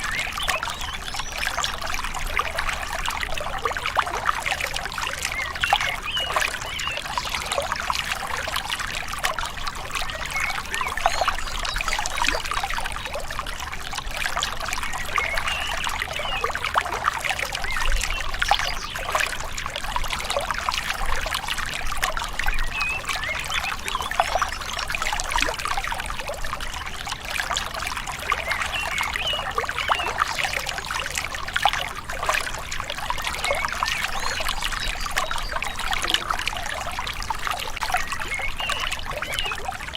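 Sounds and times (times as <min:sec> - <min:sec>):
river water trickling: 0:00.0 - 0:39.9.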